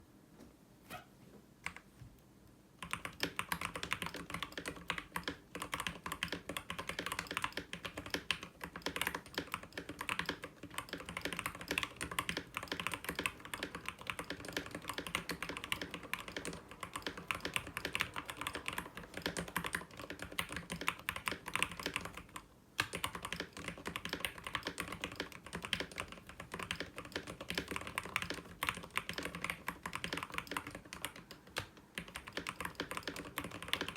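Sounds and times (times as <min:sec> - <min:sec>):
fast typing on mechanical keyboard: 0:02.8 - 0:33.9.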